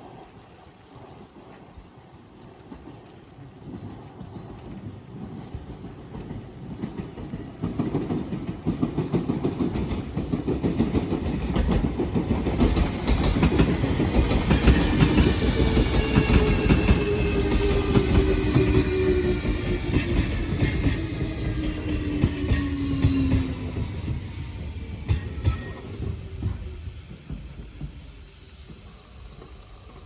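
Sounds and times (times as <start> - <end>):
train rumble: 0.0 - 30.0
train whine: 2.8 - 30.0
train wheels clicking over rail joints: 3.6 - 30.0.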